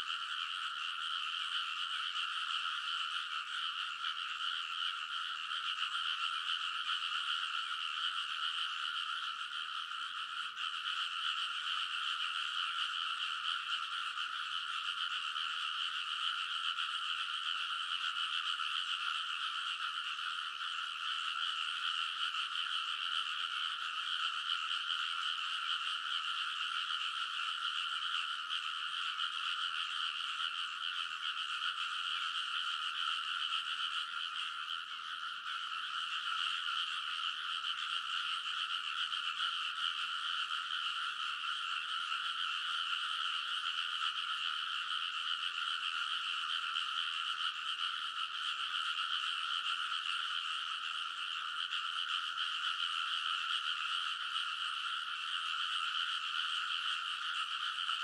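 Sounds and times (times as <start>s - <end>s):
frogs chorus calling: 0.0s - 58.0s.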